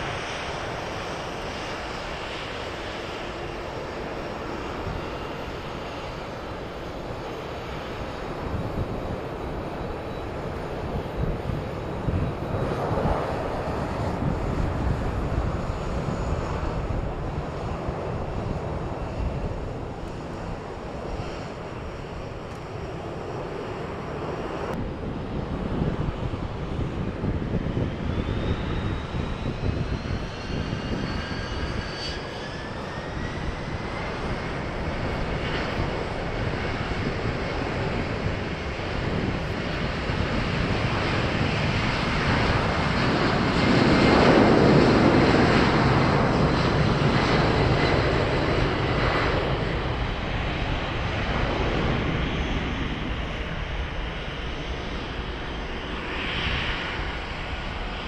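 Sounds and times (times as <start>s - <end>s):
jet engine roar: 0.0s - 58.0s
jet engines whining: 0.0s - 58.0s.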